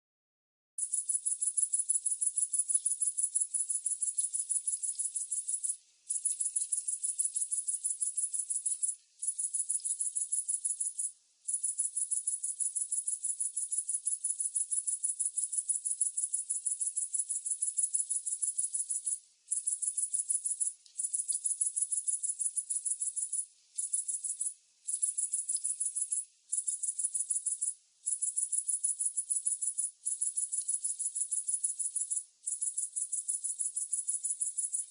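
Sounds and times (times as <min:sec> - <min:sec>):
cricket trilling: 0:00.8 - 0:34.9.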